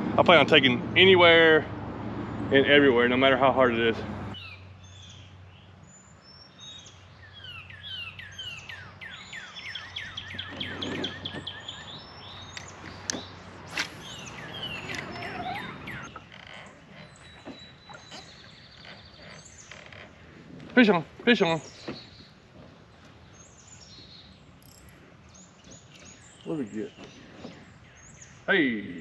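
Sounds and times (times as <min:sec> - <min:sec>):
songbirds whistling: 0:04.4 - 0:20.1, 0:21.4 - 0:29.0.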